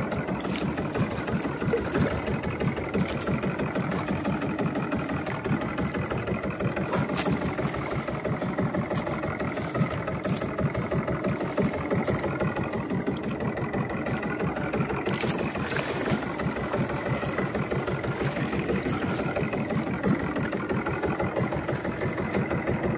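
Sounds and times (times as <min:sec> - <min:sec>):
boat engine throbbing: 0:00.0 - 0:22.9.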